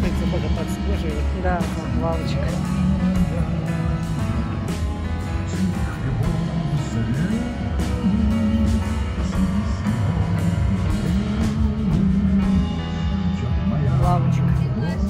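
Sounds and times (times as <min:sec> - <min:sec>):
background music with bass and drums: 0:00.0 - 0:15.0.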